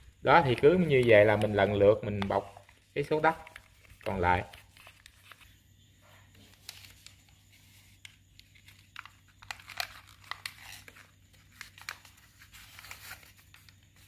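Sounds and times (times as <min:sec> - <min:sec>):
paper rustling and crinkling: 0:00.0 - 0:05.6, 0:06.2 - 0:14.0
sharp paper crackles: 0:00.4 - 0:05.6, 0:06.5 - 0:14.0.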